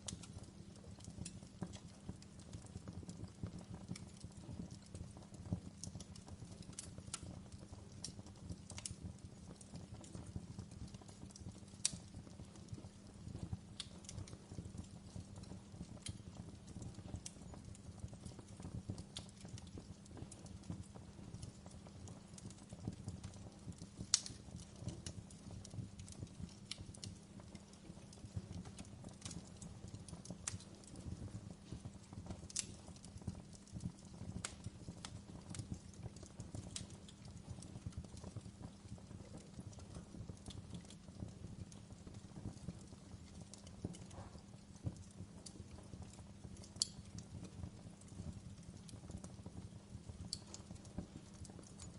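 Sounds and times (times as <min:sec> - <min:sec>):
low rumble of flames: 0:00.0 - 0:51.9
wood fire crackling and popping: 0:00.0 - 0:51.9.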